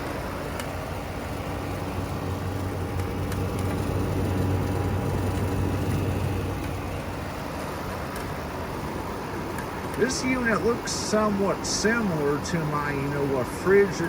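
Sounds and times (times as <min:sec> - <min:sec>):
air conditioner fan rushing: 0:00.0 - 0:14.0
low compressor hum: 0:00.0 - 0:14.0.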